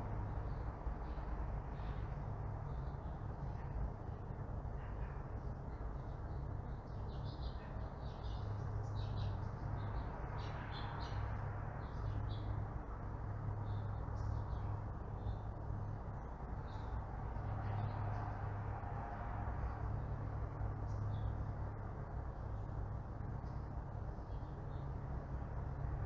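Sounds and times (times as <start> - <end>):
distant traffic hum: 0.0 - 26.0.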